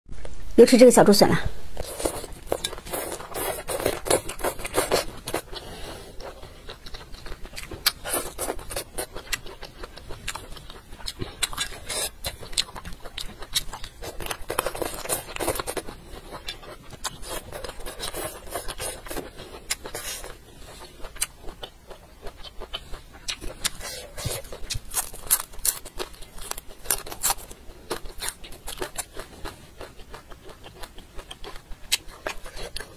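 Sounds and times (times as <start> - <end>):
crunchy biting and chewing: 1.8 - 32.9.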